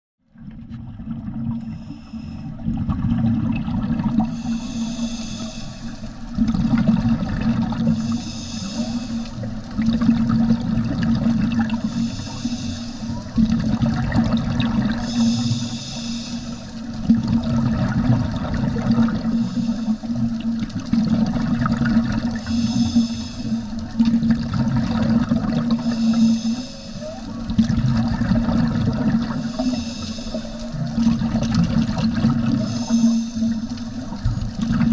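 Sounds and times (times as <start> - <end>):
exhaled bubbles underwater: 0.2 - 34.9
low underwater rumble: 0.2 - 34.9.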